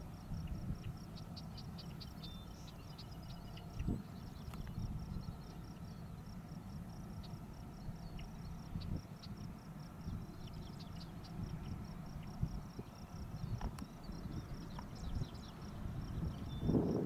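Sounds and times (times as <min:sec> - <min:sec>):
insect chirping steadily: 0:00.0 - 0:17.0.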